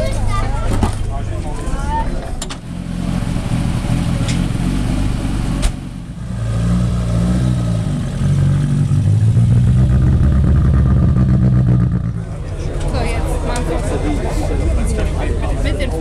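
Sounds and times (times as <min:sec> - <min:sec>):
rally car engine idling: 0:00.0 - 0:16.0
rally car engine revving: 0:02.6 - 0:16.0.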